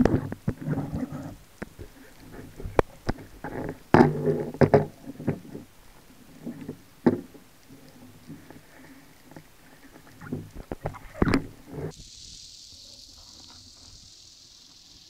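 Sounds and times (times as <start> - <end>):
underwater hiss: 0.0 - 15.0.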